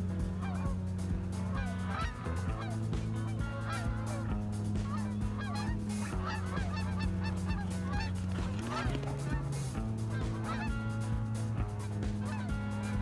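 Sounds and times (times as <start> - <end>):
steady low drone: 0.0 - 13.0
geese honking: 0.3 - 0.8, 1.4 - 13.0.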